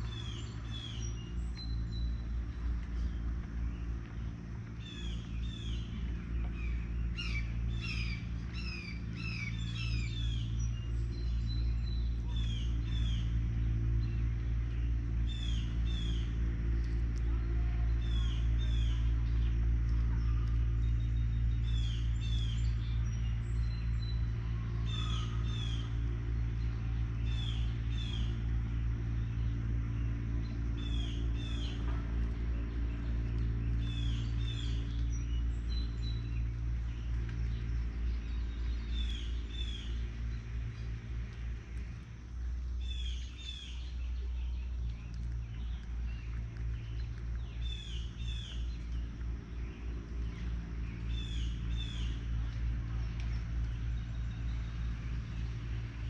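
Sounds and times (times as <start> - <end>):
songbird chirping: 0.0 - 56.0
steady low hum: 0.0 - 56.0.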